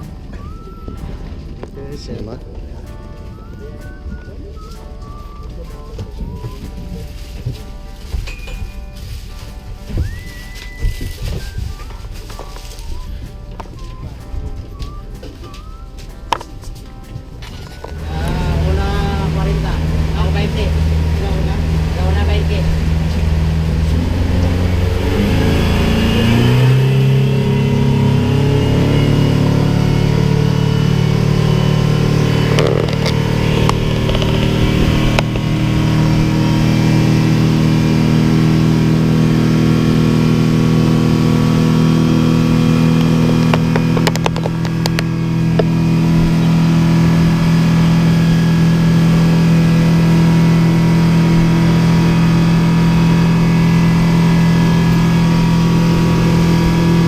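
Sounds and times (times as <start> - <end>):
speedboat engine: 0.0 - 57.0.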